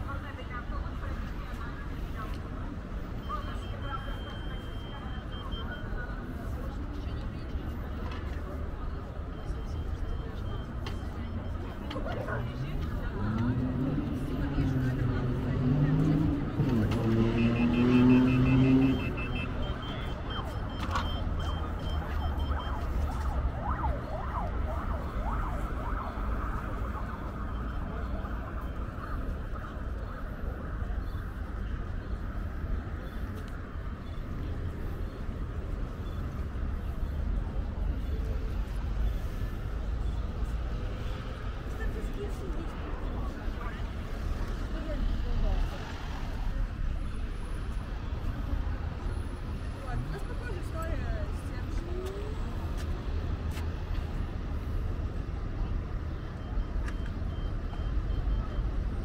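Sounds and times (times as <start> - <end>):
faint voices of passers-by: 0.0 - 59.0
low rumble of traffic: 0.0 - 59.0.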